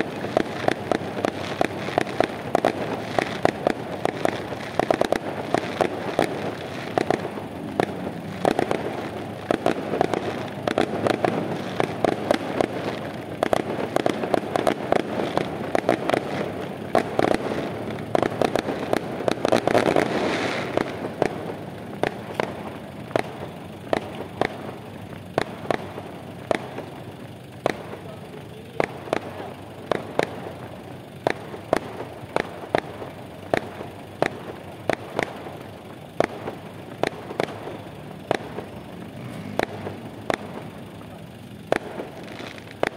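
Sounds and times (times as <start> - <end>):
fireworks popping and crackling: 0.0 - 42.9.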